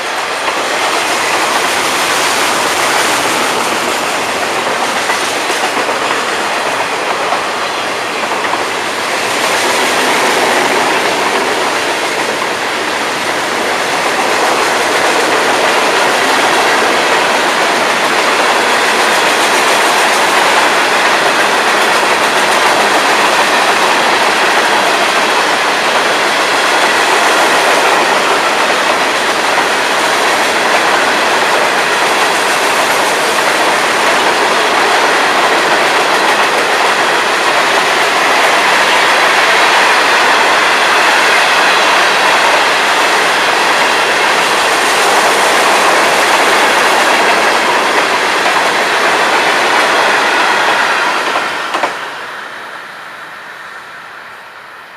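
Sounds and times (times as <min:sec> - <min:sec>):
freight cars rolling on rails: 0:00.0 - 0:53.4.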